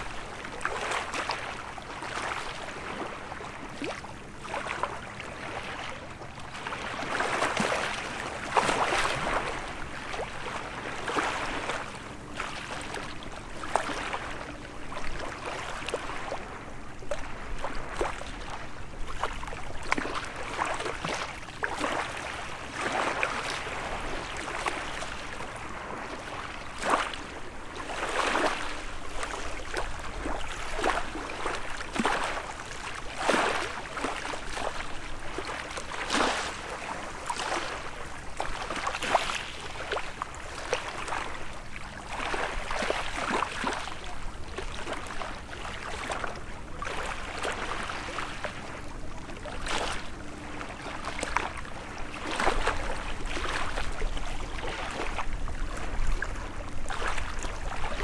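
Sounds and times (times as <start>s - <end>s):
small waves lapping and splashing: 0.0s - 58.0s.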